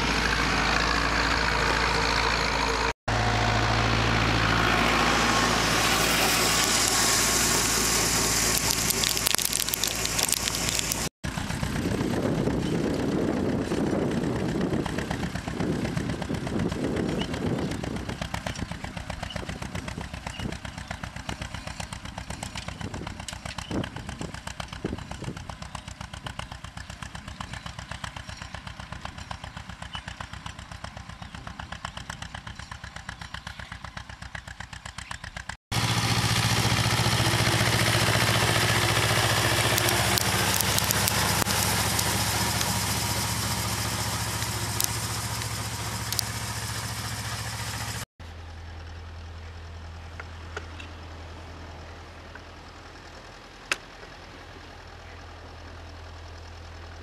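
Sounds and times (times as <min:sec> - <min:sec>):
tractor diesel engine: 0:00.0 - 0:57.0.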